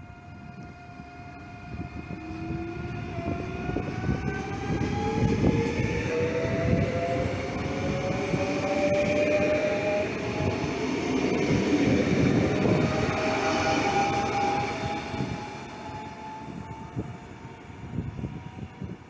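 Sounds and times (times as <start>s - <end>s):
electric whine of train: 0.0s - 19.0s
train wheels rumbling on rail: 0.0s - 19.0s.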